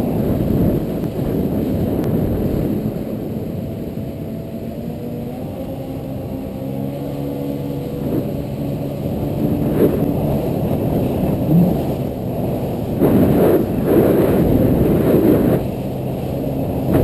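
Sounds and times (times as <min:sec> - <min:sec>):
jet ski engine running: 0:00.0 - 0:17.0
rushing noise gusts: 0:00.0 - 0:17.0.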